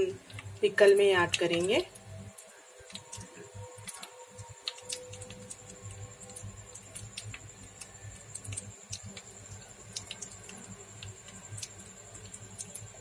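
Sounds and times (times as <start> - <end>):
seeds sizzling in hot oil: 0.0 - 13.0
small pops and crackles: 0.0 - 13.0.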